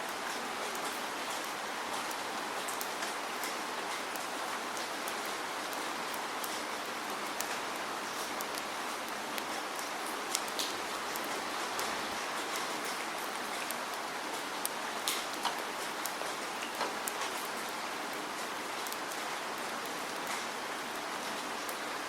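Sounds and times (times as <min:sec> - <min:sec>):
steady rain: 0:00.0 - 0:22.0
raindrops dripping: 0:00.1 - 0:22.0.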